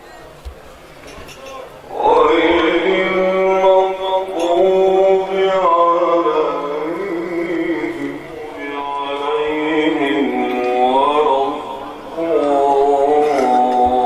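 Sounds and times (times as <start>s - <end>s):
man chanting drawn-out notes: 1.9s - 14.0s.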